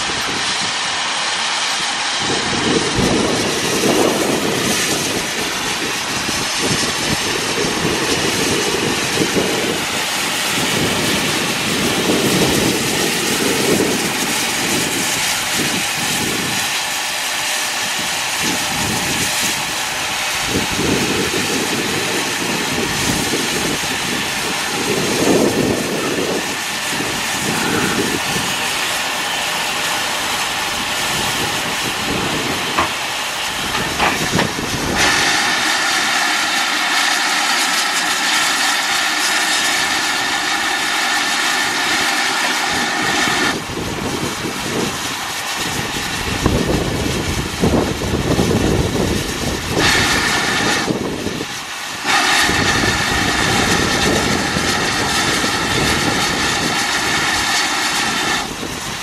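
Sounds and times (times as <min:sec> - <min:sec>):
steam locomotive hissing: 0:00.0 - 0:59.0.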